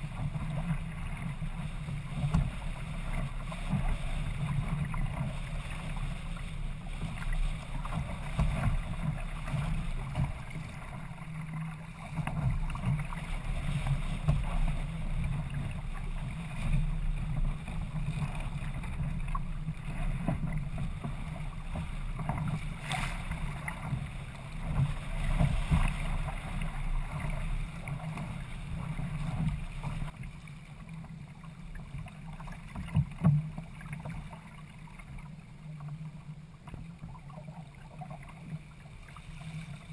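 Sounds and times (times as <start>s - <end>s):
water splashing along a hull: 0.0s - 39.9s.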